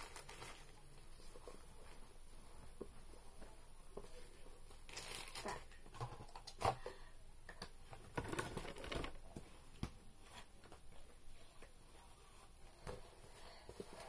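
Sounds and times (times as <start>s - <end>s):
rustling handling noise: 0.0s - 6.7s, 7.8s - 14.0s.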